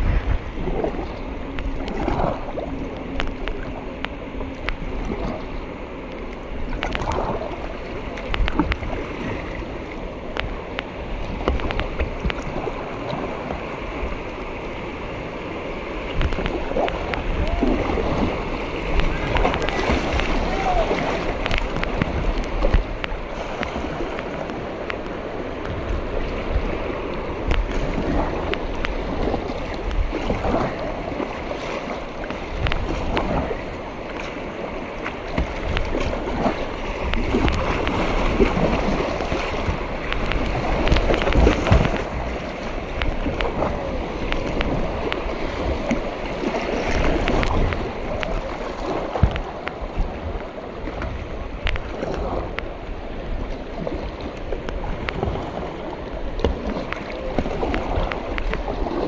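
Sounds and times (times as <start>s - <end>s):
paddle blades splashing: 0.0s - 59.0s
water rushing and splashing: 0.0s - 59.0s.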